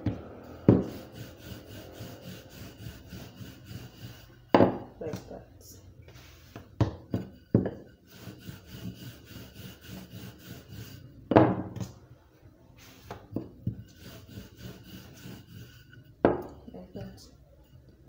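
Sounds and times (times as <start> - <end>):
rolling pin rubbing on dough: 0.7 - 5.4, 6.0 - 11.2, 12.8 - 18.0.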